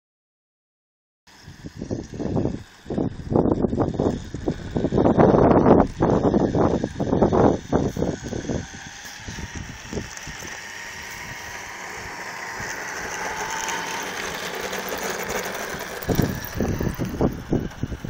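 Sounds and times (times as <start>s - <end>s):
toy truck motor whining: 1.4s - 18.0s
wind buffeting microphone: 1.4s - 18.0s.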